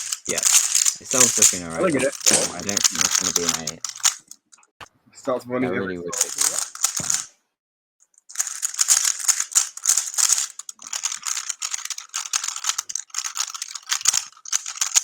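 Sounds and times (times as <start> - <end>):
puzzle cube plastic clicks: 0.0 - 4.6, 6.2 - 7.3, 8.1 - 15.0.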